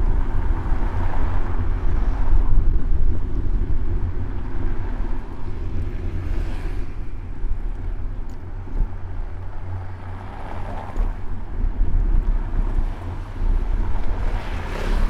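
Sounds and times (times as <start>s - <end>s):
city street traffic: 0.0s - 15.0s
wind buffeting microphone: 0.0s - 15.0s.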